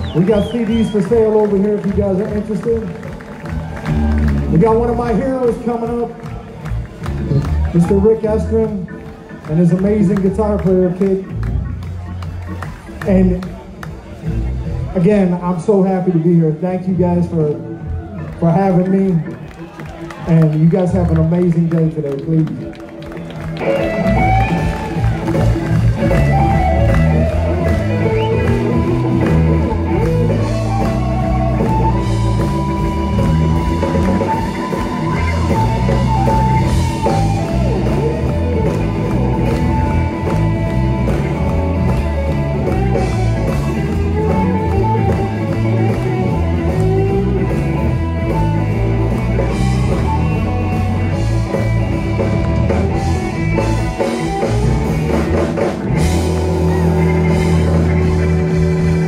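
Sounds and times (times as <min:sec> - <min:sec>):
blues-rock band instrumental: 0:00.0 - 0:59.0.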